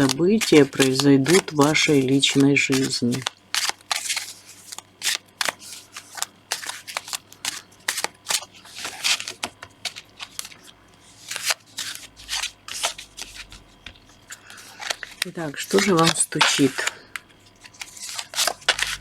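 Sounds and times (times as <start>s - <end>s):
cards being shuffled: 0.0s - 19.0s.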